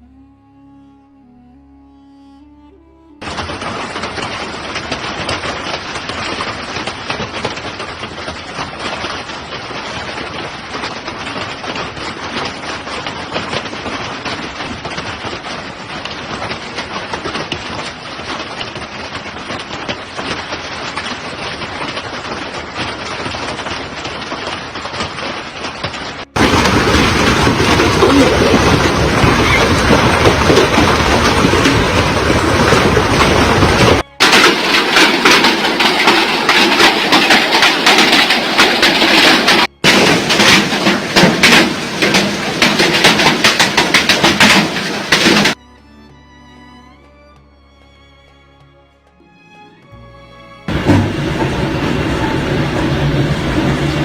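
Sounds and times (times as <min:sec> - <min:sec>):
heavy rain pouring: 0:03.2 - 0:45.6, 0:49.8 - 0:54.0.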